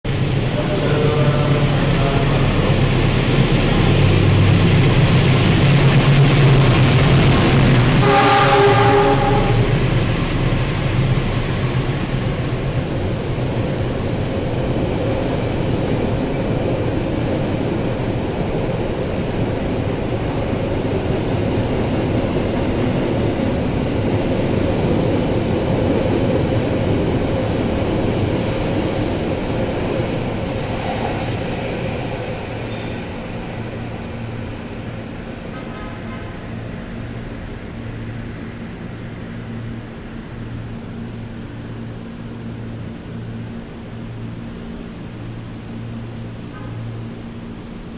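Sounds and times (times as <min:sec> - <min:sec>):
train wheels rumbling on rails: 0:00.1 - 0:47.9.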